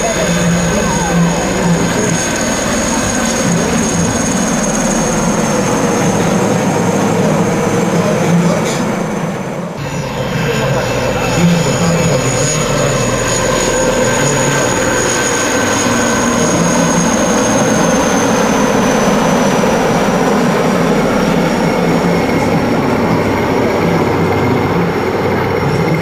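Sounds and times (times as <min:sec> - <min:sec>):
helicopters flying past: 0:00.0 - 0:26.0
high turbine whine: 0:00.0 - 0:26.0.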